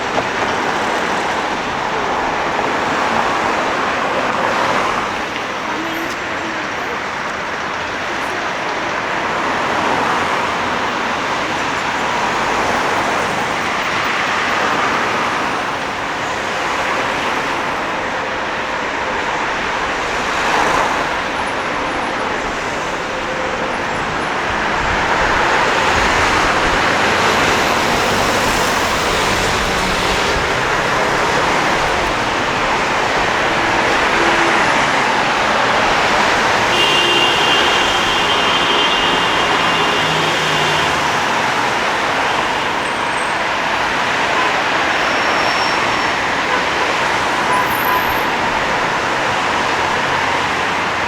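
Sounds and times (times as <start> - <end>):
passing cars: 0.0 - 51.0.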